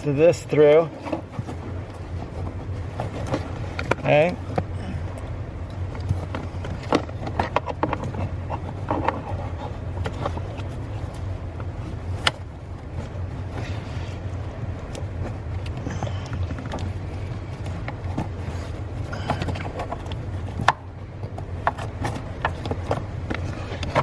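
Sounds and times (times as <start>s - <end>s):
hood release cable clicking and rattling: 0.0s - 24.0s
steady low hum: 0.0s - 24.0s.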